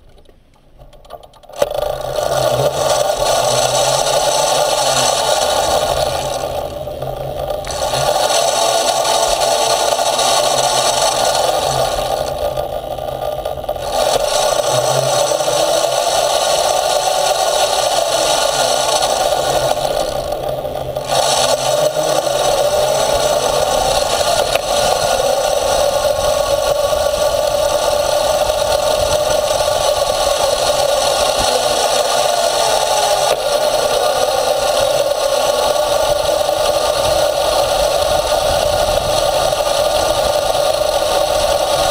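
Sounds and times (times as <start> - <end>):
small wheels road noise: 0.0 - 41.9
electric motor hum: 0.7 - 41.9.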